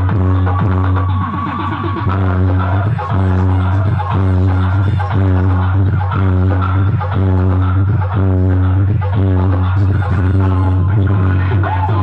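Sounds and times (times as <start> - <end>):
dance music over loudspeakers: 0.0 - 12.0.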